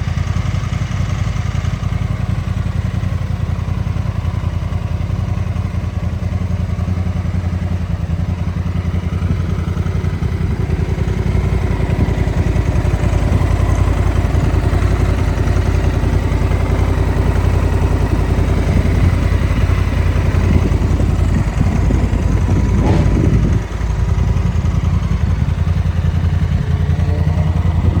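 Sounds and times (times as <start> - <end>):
motorcycle engine idling: 0.0 - 28.0
motorcycle engine revving: 0.0 - 28.0.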